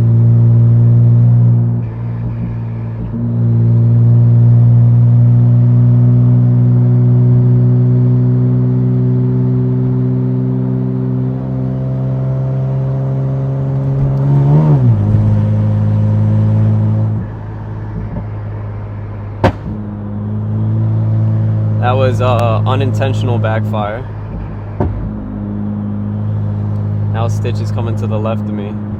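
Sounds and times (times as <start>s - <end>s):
car engine running: 0.0s - 28.9s
exhaust crackle: 0.0s - 28.9s.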